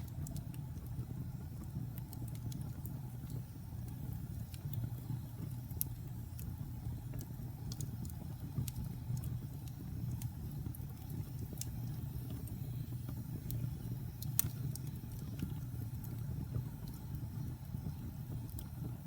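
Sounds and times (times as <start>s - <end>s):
wood fire burning: 0.0s - 19.0s.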